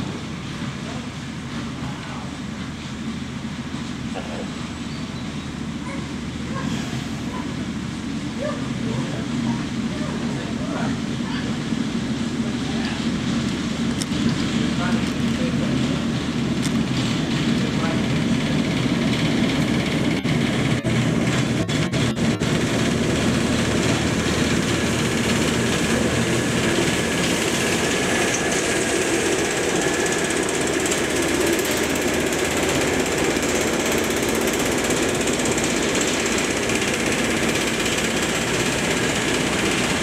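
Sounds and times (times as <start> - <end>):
diesel locomotive engine running: 0.0 - 40.0.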